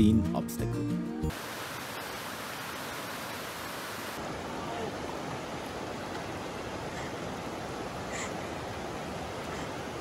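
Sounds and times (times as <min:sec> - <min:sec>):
creek rushing over rocks: 0:01.3 - 0:10.0.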